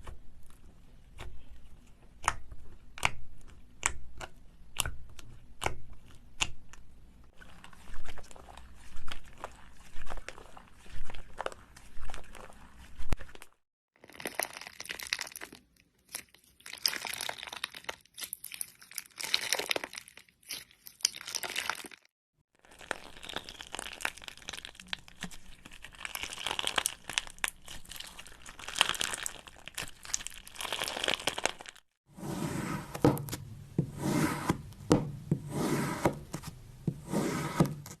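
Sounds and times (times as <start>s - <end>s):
material crunching while stirred: 7.3s - 38.0s.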